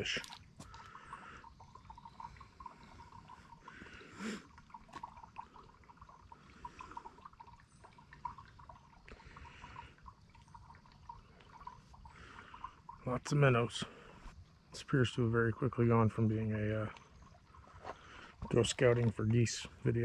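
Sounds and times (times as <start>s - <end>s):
water drips and splashes: 0.0s - 14.0s, 15.6s - 20.0s
creek trickling: 0.0s - 20.0s.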